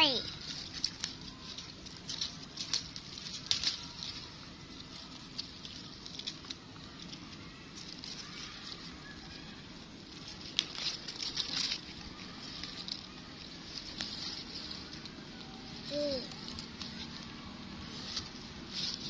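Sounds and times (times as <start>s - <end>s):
plants rustling and crackling: 0.0s - 19.0s.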